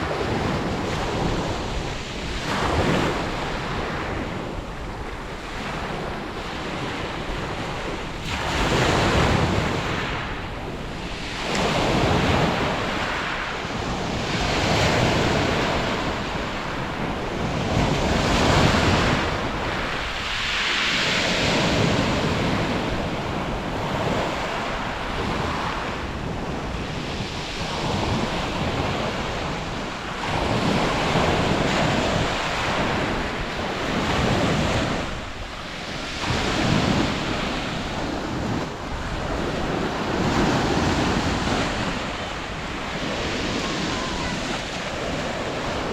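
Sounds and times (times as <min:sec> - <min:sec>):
sea waves breaking on beach: 0:00.0 - 0:45.9
wind on microphone: 0:00.0 - 0:45.9.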